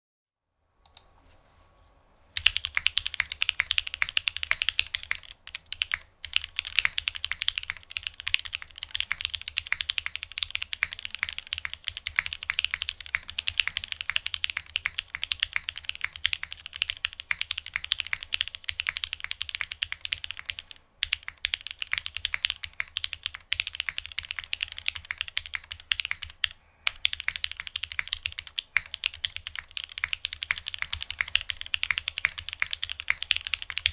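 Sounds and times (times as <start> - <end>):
fast typing on mechanical keyboard: 2.4 - 33.9.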